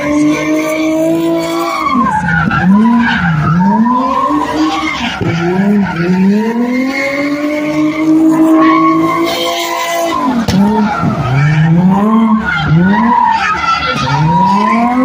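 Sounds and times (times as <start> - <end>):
car engine revving hard: 0.0 - 15.0
tyres screeching: 0.0 - 15.0.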